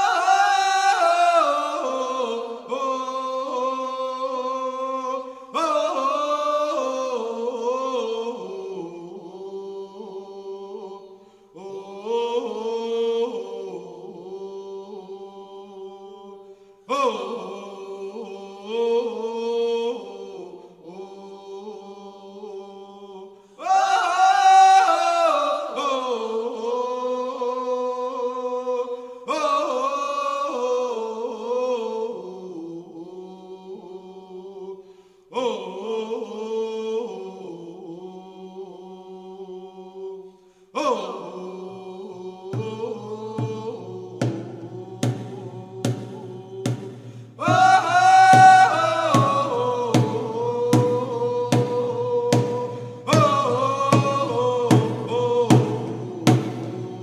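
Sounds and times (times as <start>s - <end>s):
unaccompanied chant singing: 0.0s - 57.0s.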